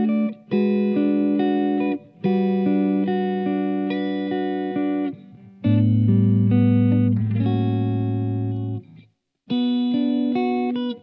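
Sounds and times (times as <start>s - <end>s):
electric guitar chords: 0.0s - 11.0s.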